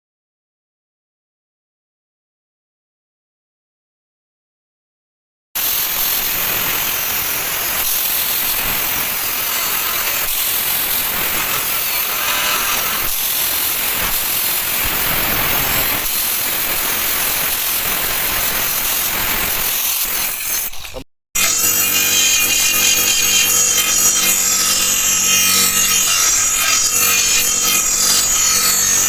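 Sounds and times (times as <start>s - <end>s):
power tool running on metal: 5.6s - 29.0s.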